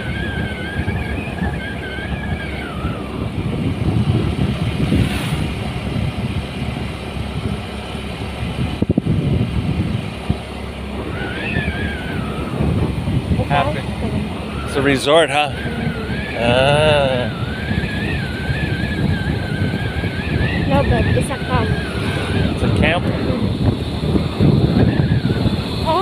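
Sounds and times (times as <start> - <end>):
vehicle driving on road: 0.0 - 26.0
wavering high whine: 0.0 - 26.0.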